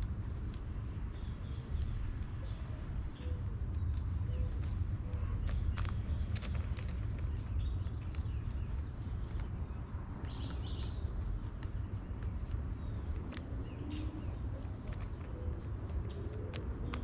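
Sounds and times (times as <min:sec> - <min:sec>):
low wind rumble: 0:00.0 - 0:17.0
bird pecking on wooden railing: 0:03.3 - 0:17.0.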